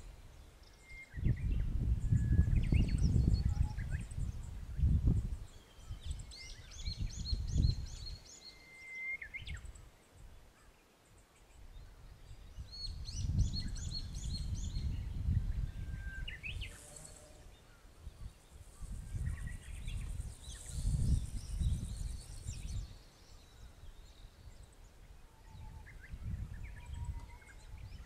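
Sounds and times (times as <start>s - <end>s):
wind gusting against microphone: 0.0s - 8.4s, 11.6s - 28.0s
birds singing: 0.0s - 28.0s.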